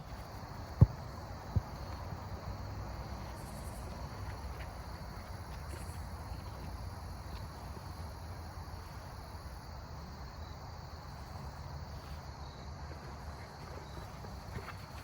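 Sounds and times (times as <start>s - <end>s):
crickets and insects chirring: 0.0s - 15.0s.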